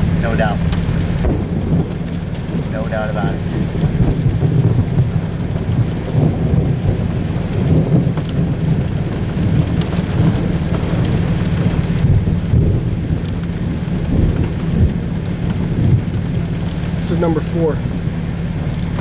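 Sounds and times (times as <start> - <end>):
rain: 0.0 - 19.0
wind: 0.0 - 19.0.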